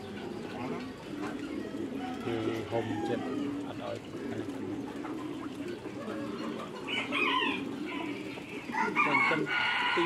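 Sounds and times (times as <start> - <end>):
ducks and geese calling: 0.0 - 10.0.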